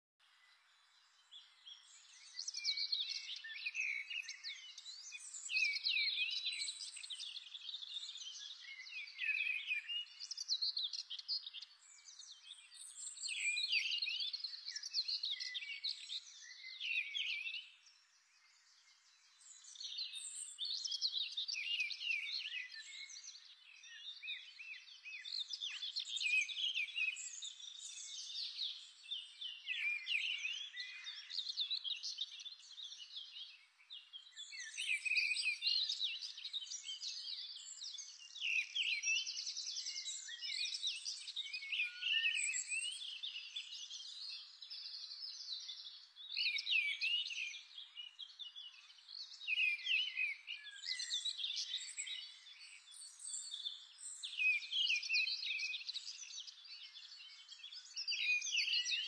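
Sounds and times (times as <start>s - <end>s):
small birds chirping and twittering: 0.2s - 59.0s.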